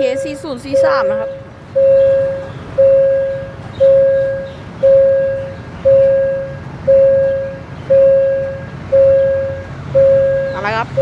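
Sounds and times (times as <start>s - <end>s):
level-crossing warning bell ringing: 0.0s - 11.0s.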